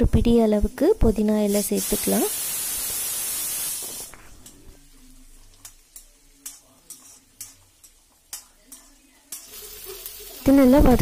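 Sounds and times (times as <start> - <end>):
faint sizzle of frying: 0.0 - 11.0.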